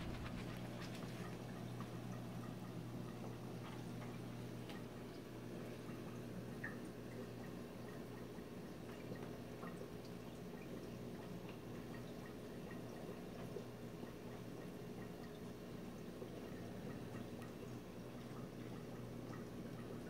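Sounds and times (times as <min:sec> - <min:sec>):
small drips: 0:00.0 - 0:20.0
steady low hum: 0:00.0 - 0:20.0
water trickling: 0:00.0 - 0:20.0.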